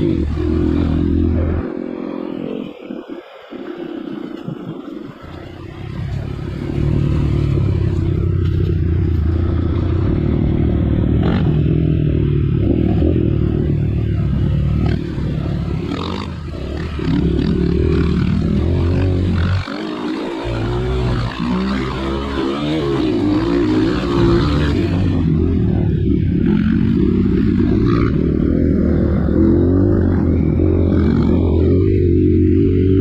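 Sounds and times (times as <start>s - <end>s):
off-road motorcycle engine revving: 0.0s - 2.5s, 4.0s - 33.0s.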